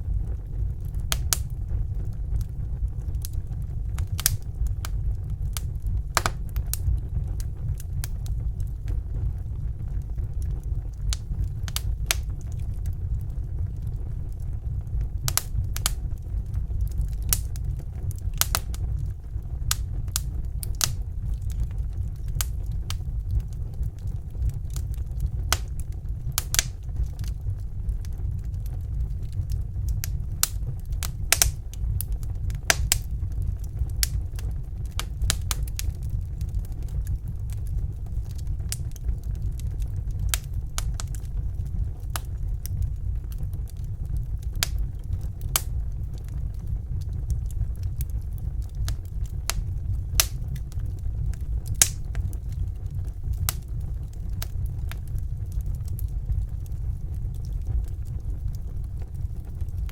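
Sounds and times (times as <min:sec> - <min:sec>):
steady low rumble: 0:00.0 - 0:59.9
wood fire crackling and popping: 0:00.0 - 0:59.9.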